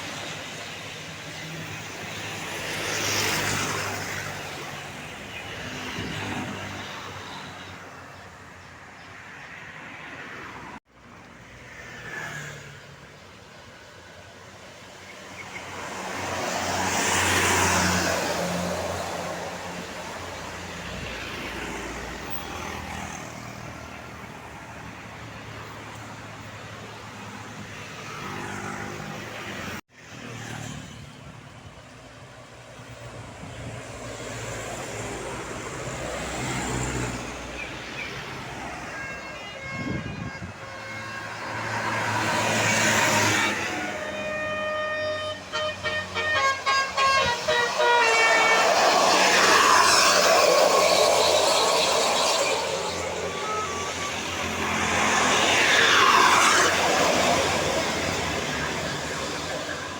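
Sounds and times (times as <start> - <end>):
traffic driving past: 0.0 - 59.9.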